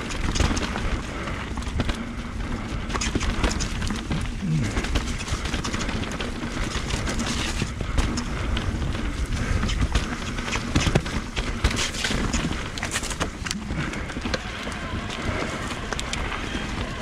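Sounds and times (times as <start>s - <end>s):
bike rattling over bumps: 0.0s - 17.0s
bike tyres on dirt trail: 0.0s - 17.0s
wind rumbling on microphone: 0.0s - 17.0s.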